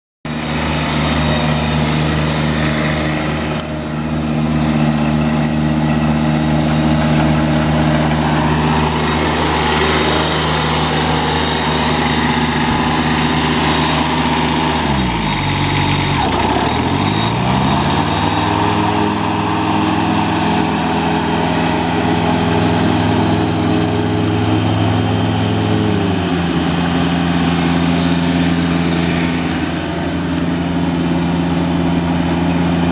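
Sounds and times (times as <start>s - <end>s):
diesel mower engine running: 0.3s - 32.9s.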